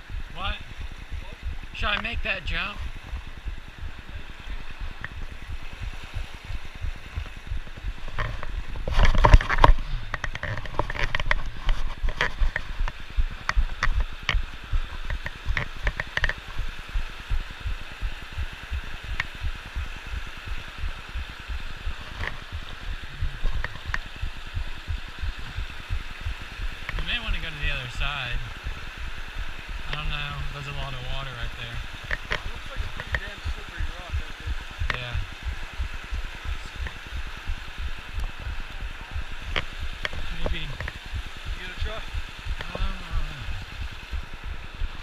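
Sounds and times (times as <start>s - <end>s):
creek rushing over boulders: 0.0s - 45.0s
short knocks and low thumps: 0.0s - 45.0s.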